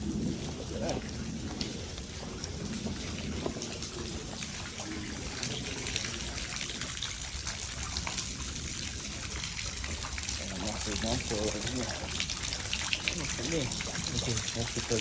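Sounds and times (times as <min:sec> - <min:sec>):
rain falling: 0:00.0 - 0:15.0
water dripping and trickling: 0:00.0 - 0:15.0.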